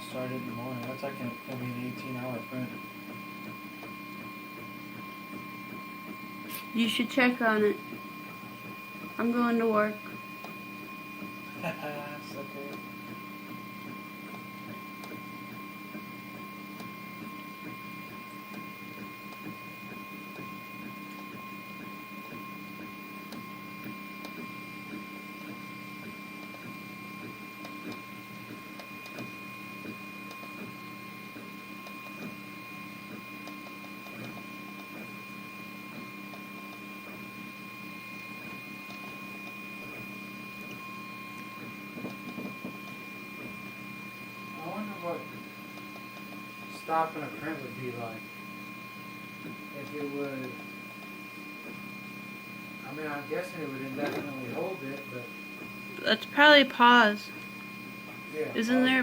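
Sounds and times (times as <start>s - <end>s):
printer mechanical whirring: 0.0s - 59.0s.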